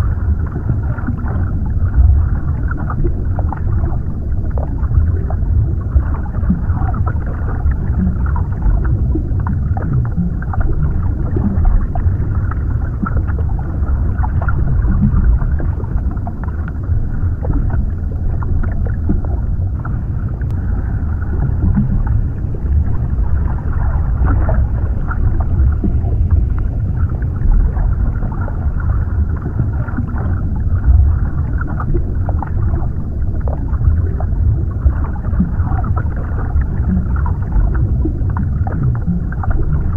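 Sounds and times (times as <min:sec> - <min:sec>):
underwater rumbling wash: 0:00.0 - 0:39.9.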